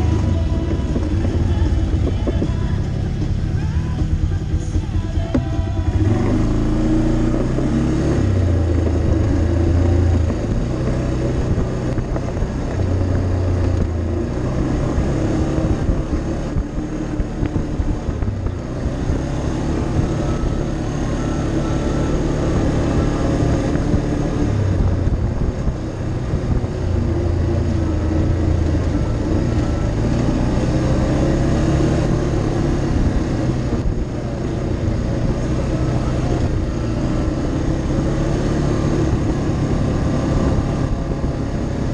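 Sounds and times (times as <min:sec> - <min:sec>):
atv engine revving: 0:00.0 - 0:41.9
wind and trail noise: 0:00.0 - 0:41.9.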